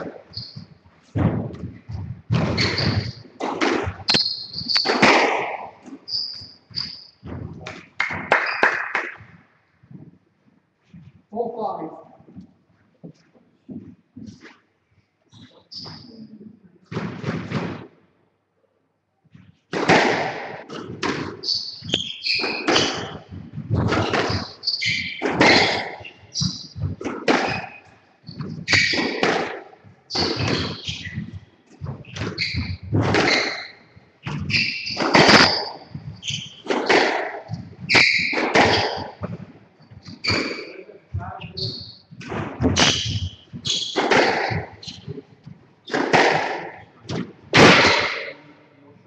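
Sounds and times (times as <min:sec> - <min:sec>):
squash ball hitting walls: 0:00.0 - 0:10.0, 0:16.9 - 0:18.0, 0:19.6 - 0:48.4
shoes squeaking on wooden floor: 0:00.0 - 0:11.3, 0:12.2 - 0:16.6, 0:20.6 - 0:48.4.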